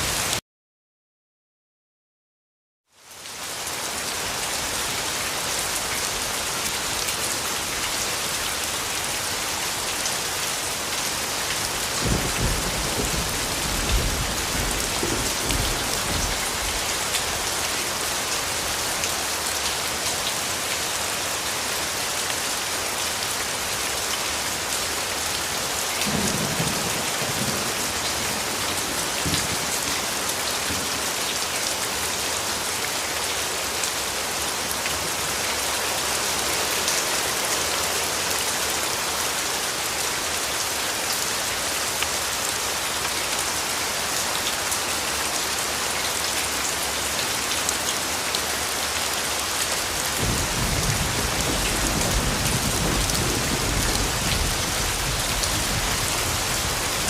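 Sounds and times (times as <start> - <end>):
steady rain falling: 0.0 - 0.4, 2.9 - 57.0.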